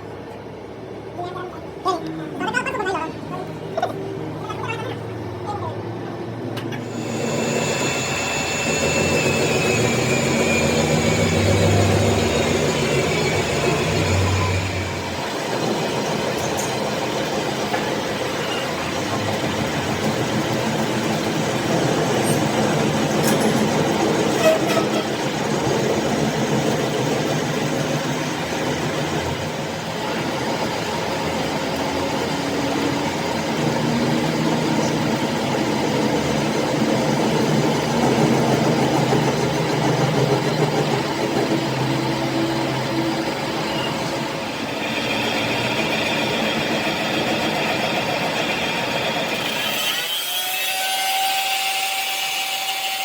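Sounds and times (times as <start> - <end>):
heavy machinery running: 6.2 - 51.0.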